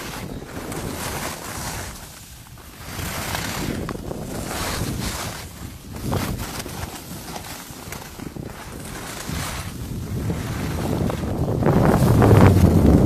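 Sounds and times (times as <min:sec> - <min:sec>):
skis carving on snow: 0:00.0 - 0:13.0
wind rushing over microphone: 0:00.0 - 0:13.0.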